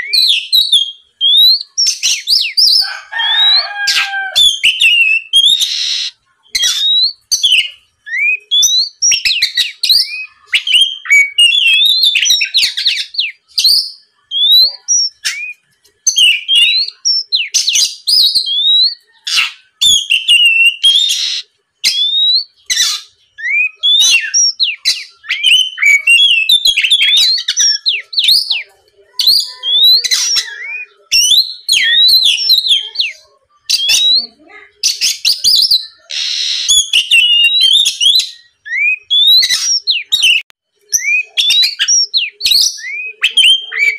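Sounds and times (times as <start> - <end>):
bird singing varied song: 0.0 - 43.9.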